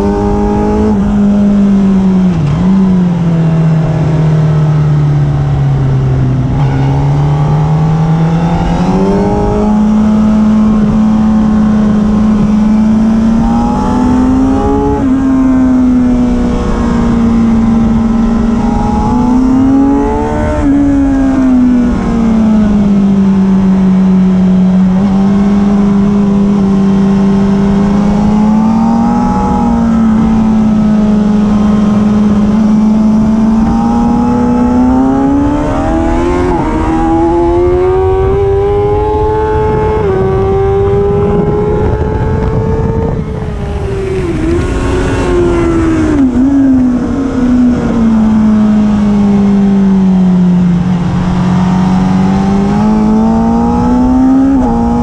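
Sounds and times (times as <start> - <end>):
motorcycle engine running hard: 0.0 - 55.0
wind noise: 0.0 - 55.0.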